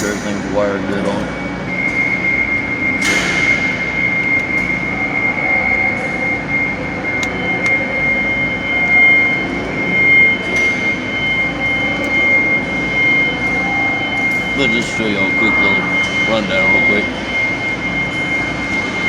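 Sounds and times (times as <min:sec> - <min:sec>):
faint second whine: 0:00.0 - 0:19.0
high-pitched whine: 0:00.0 - 0:19.0
mechanical hum: 0:00.0 - 0:19.0.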